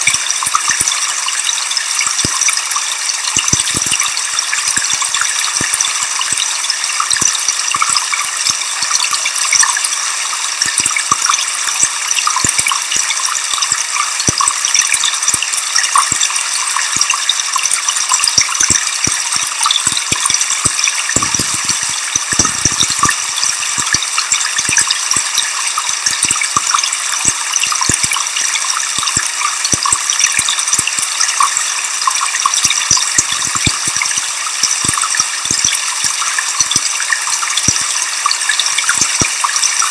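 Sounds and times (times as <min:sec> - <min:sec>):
water splashes and drips: 0:00.0 - 0:39.9.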